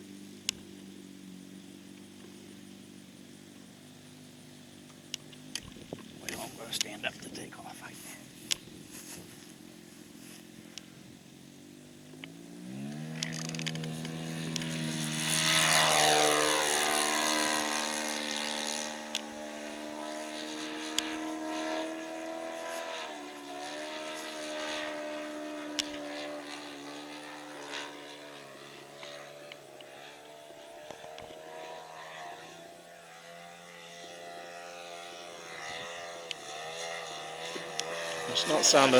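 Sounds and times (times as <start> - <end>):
model airplane motor and propeller: 0.0 - 38.9.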